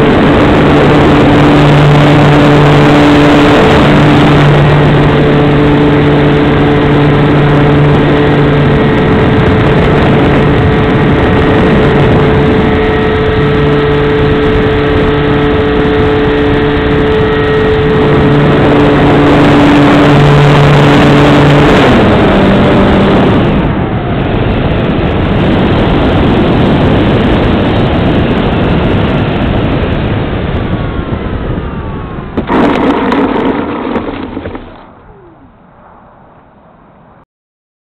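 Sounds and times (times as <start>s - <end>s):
model airplane engine: 0.0s - 35.6s
rough rumble of wheels on dirt: 0.0s - 35.6s
wind rushing over microphone: 0.0s - 37.2s.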